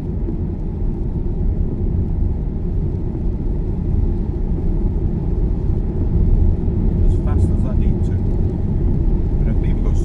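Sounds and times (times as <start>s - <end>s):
tyre and road noise: 0.0s - 10.0s.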